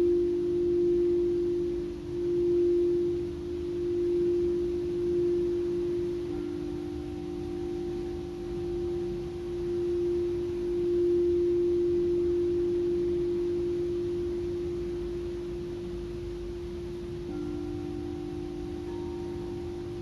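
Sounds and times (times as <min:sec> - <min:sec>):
singing bowl tone: 0:00.0 - 0:20.0.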